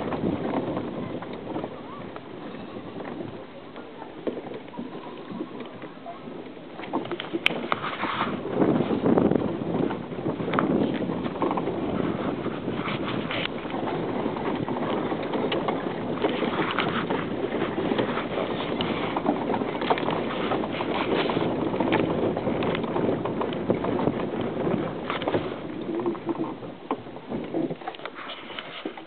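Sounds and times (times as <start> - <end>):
tyres on gravel: 0.0 - 29.0.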